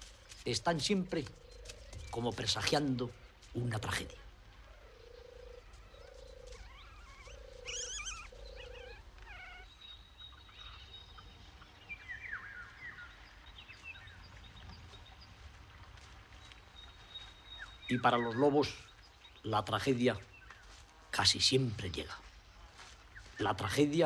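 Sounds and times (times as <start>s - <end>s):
low bird call: 0.0s - 21.2s
songbird warbling chirps: 0.8s - 21.3s.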